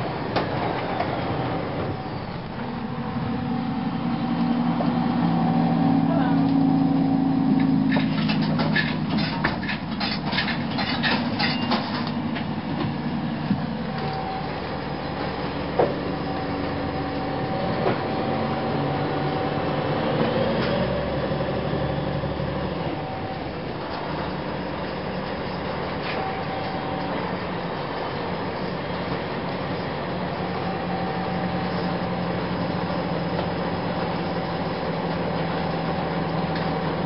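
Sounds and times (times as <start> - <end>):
bus diesel engine droning: 0.0 - 37.0
transmission whine: 0.0 - 37.0.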